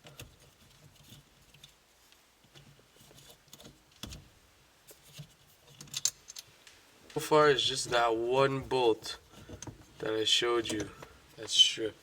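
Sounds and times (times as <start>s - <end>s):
faint clicks and light knocks: 0.0s - 8.0s, 8.7s - 11.6s.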